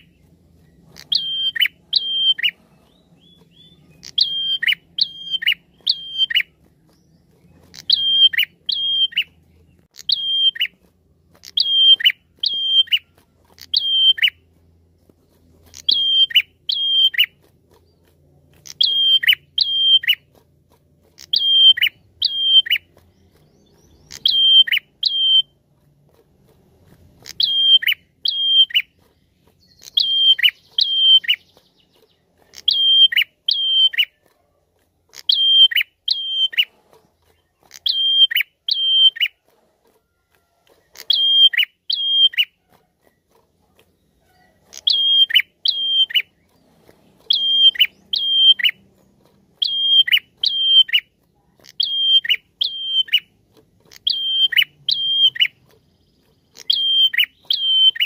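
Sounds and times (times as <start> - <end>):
songbird calling sharp notes: 0.0 - 14.6, 15.3 - 20.4, 21.1 - 25.7, 27.2 - 34.2, 35.1 - 39.5, 40.5 - 58.0.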